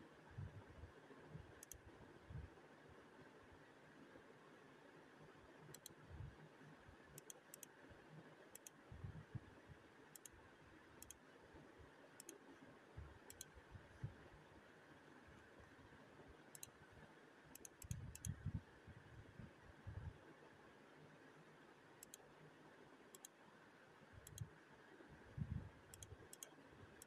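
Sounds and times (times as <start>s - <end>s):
faint room hiss: 0.0s - 27.0s.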